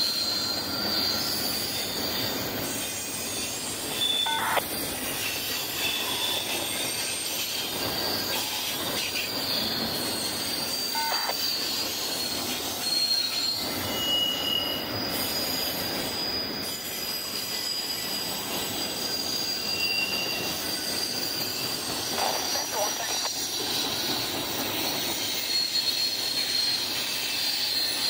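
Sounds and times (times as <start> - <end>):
freight train rumbling: 0.0 - 28.0
wheels squealing: 0.0 - 28.0.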